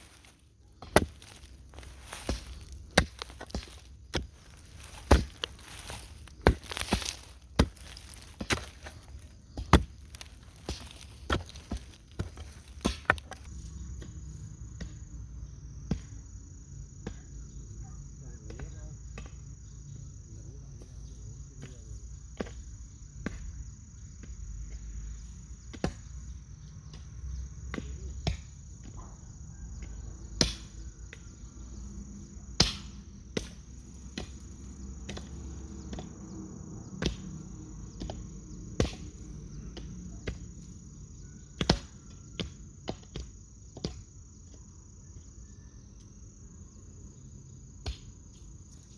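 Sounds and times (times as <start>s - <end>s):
crickets droning: 0.0s - 48.9s.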